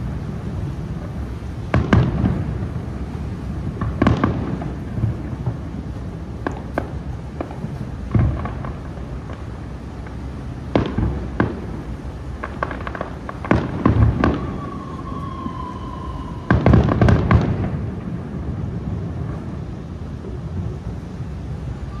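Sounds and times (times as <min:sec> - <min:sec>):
firework booms: 0:00.0 - 0:22.0
fireworks bangs and crackles: 0:00.0 - 0:22.0.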